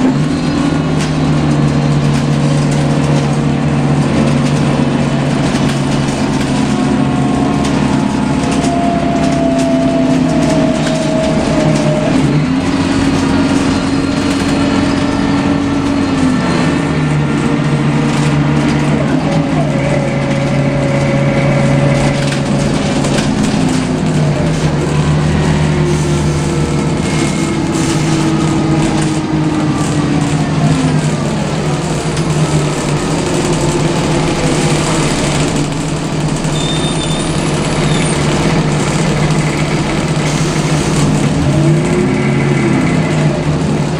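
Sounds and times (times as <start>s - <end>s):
bus engine drone: 0.0s - 43.9s.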